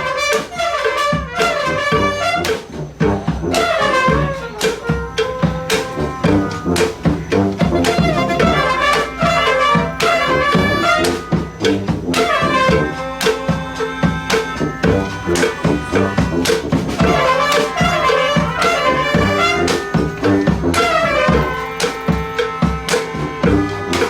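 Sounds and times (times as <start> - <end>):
horns playing a tune: 0.0 - 24.0
steady drum beat: 0.0 - 24.0.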